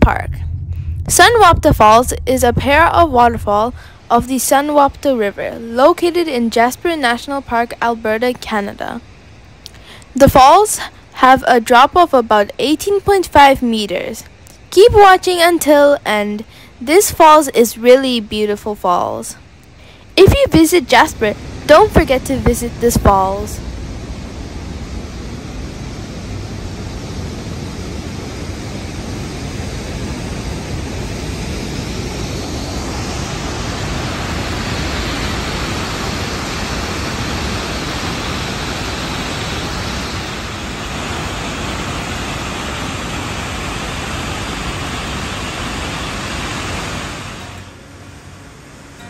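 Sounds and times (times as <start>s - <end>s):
waterfall roaring: 1.1s - 13.9s, 19.8s - 48.4s.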